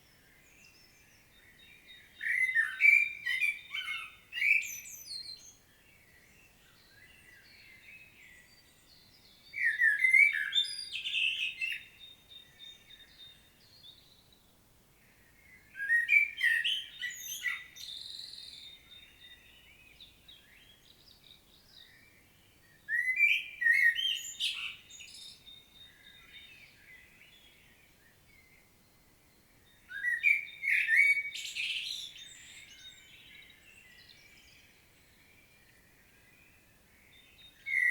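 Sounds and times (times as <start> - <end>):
blackbird singing: 0.0 - 14.4, 15.3 - 37.9.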